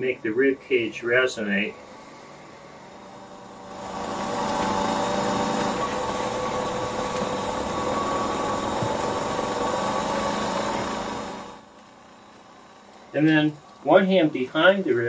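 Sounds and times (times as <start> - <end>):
electric vibrating tool buzzing: 0.0 - 14.4.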